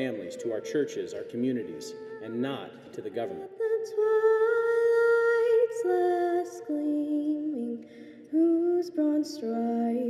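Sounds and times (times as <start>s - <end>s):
slow two-part harmony singing: 0.0s - 10.0s.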